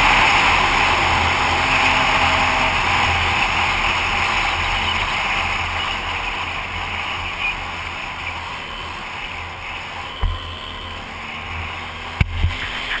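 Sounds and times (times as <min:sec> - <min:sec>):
muffled engine drone: 0:00.0 - 0:13.0.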